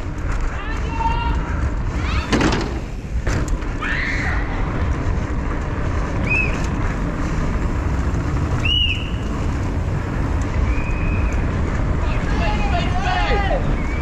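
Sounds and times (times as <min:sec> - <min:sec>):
mountain bike rolling rumble: 0:00.0 - 0:14.0
wind rush on helmet camera: 0:00.0 - 0:14.0.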